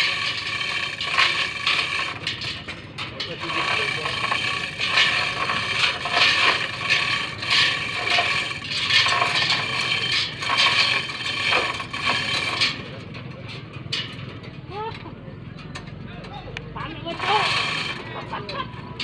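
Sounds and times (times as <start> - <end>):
hoist chain rattling: 0.0 - 15.0, 16.9 - 19.0.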